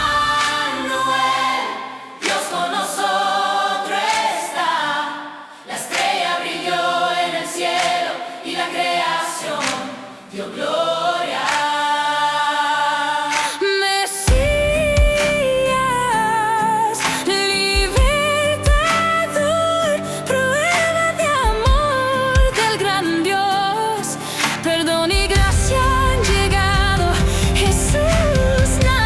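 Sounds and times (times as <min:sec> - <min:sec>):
choir singing a cappella: 0:00.0 - 0:29.0.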